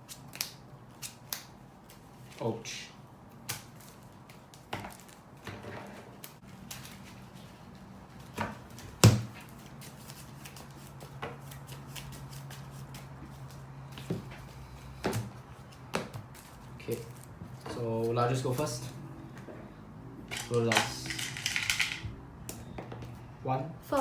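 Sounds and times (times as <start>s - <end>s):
cards rustling and tapping: 0.0s - 2.5s, 3.3s - 19.5s, 20.3s - 23.2s.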